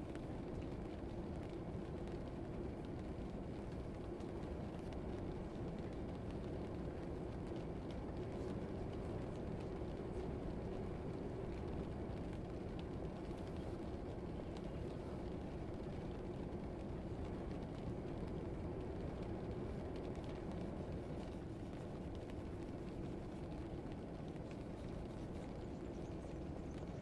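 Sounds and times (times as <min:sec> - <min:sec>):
low rumbling room ambience: 0:00.0 - 0:27.0.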